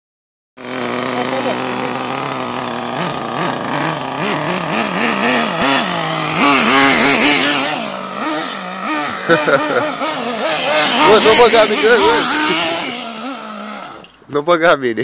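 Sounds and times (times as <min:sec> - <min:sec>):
small engine revving: 0:00.6 - 0:14.2.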